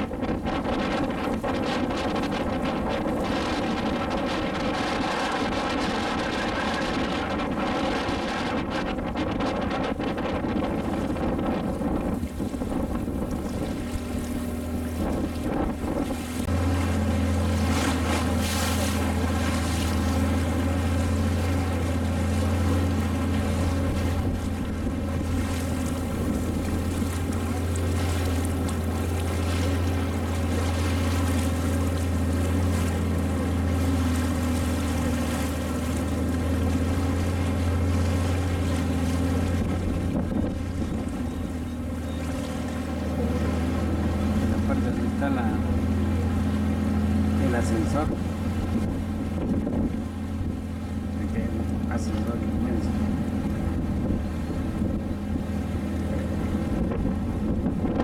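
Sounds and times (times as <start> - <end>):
motorboat engine running: 0.0 - 58.0
wind buffeting microphone: 0.0 - 58.0.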